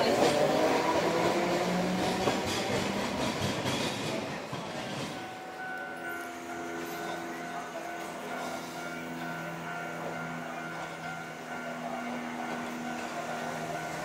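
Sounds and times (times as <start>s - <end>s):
tram running over rails: 0.0s - 14.0s.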